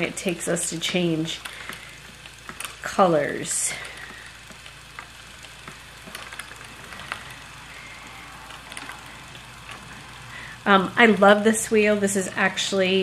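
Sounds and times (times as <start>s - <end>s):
spinning wheel whirring: 0.0s - 13.0s.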